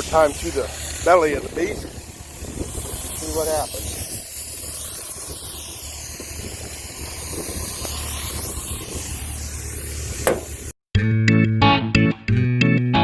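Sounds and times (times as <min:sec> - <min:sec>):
air blow gun hissing: 0:00.0 - 0:10.8.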